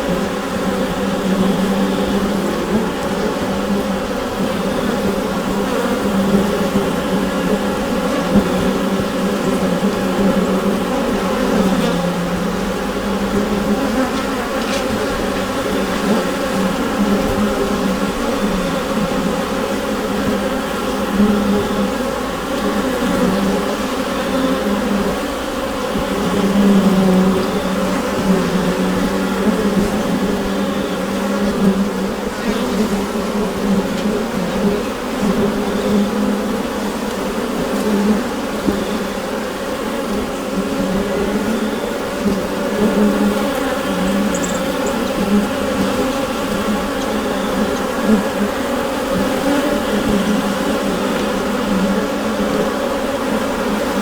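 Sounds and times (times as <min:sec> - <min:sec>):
honeybees buzzing in hive: 0:00.0 - 0:54.0.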